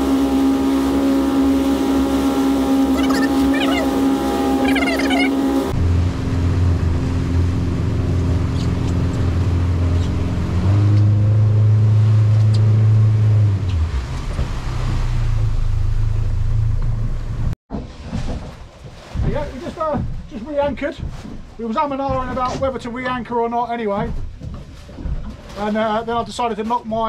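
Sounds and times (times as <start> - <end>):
outboard motor running: 0.0 - 26.4.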